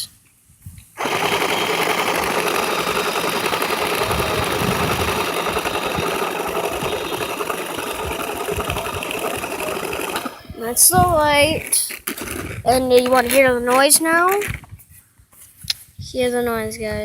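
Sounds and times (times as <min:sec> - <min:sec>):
toy chainsaw motor rattling: 0:01.0 - 0:14.6.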